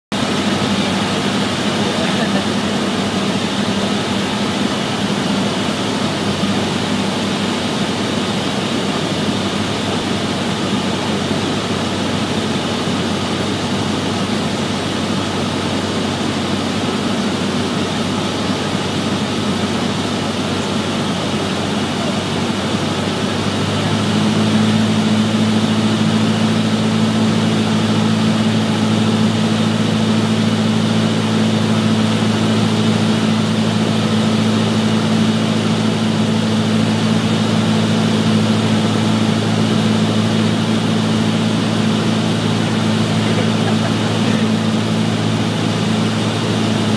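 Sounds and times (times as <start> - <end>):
propeller plane engine droning: 0.1 - 46.9.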